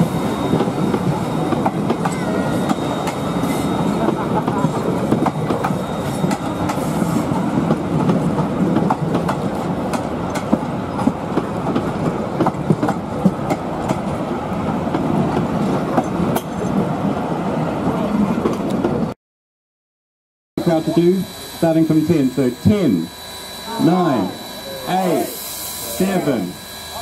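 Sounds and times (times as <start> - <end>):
railway carriages rumbling past: 0.0 - 19.2, 20.6 - 27.0.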